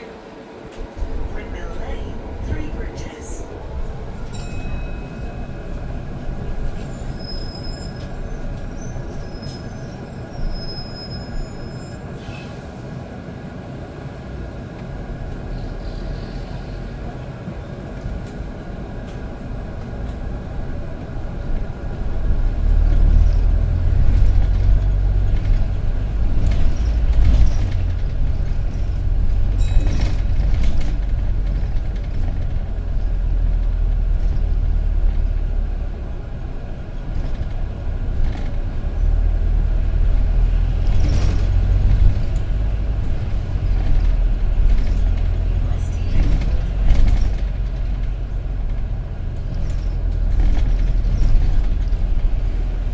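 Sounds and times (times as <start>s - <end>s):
bus mechanical hum: 0.0s - 52.9s
low rumble of bus driving: 0.0s - 52.9s.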